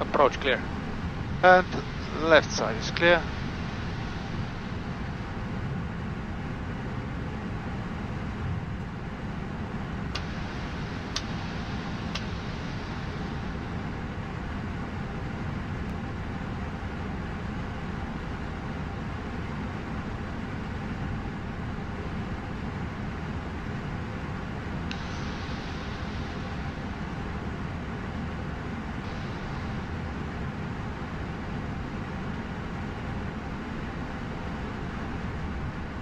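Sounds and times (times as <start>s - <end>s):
cockpit rumble and hiss: 0.0s - 36.0s.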